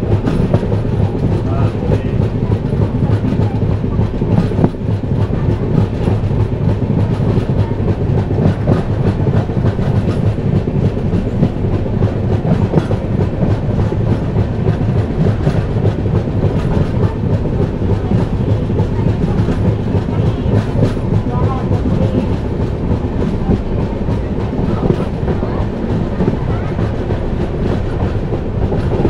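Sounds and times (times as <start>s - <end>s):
clickety-clack of train wheels: 0.0s - 29.0s
train wheels rumbling on rails: 0.0s - 29.0s.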